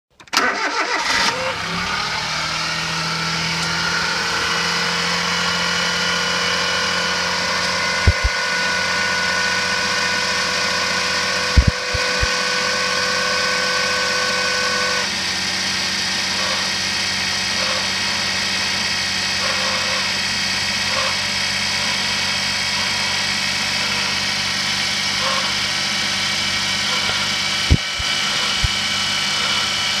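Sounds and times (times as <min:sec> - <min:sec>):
car engine idling: 0:00.5 - 0:30.0.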